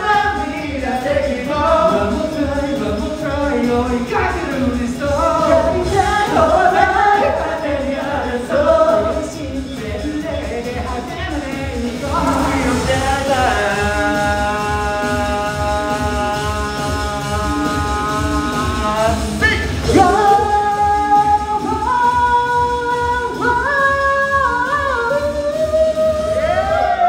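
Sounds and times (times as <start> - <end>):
pop song with singing: 0.0 - 27.0.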